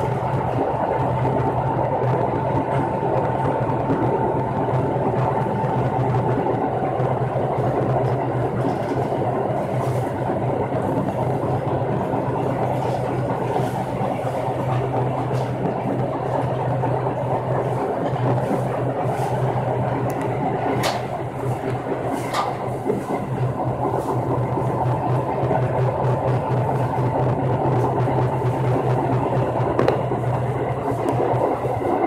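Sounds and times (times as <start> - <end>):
high motor whine: 0.0 - 32.0
train motor hum: 0.0 - 32.0
wheel-on-rail rumble: 0.0 - 32.0.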